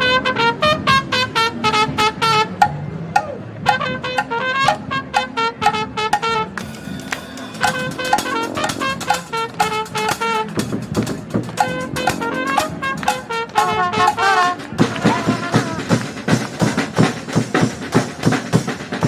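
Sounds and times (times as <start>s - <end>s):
brass band playing: 0.0s - 2.8s, 3.6s - 19.0s
drum hits: 2.6s - 19.0s.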